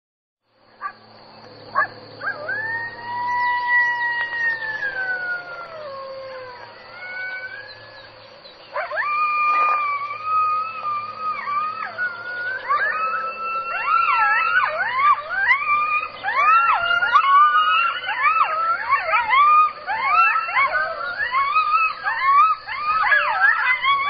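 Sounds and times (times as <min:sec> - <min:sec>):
second jackal howling faintly: 0:01.7 - 0:08.2, 0:08.8 - 0:24.0
jackal howling: 0:01.7 - 0:24.0.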